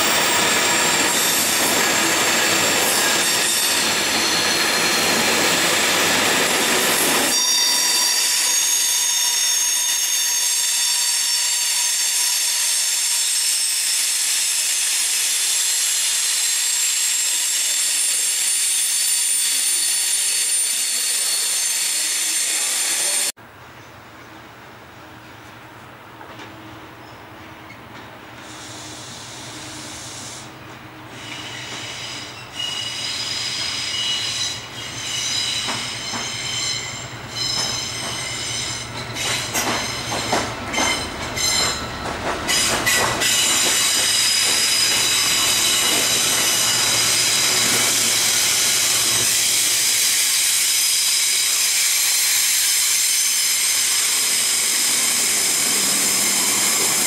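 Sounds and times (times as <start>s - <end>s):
train wheel squeal: 0.0s - 23.3s, 31.1s - 57.0s.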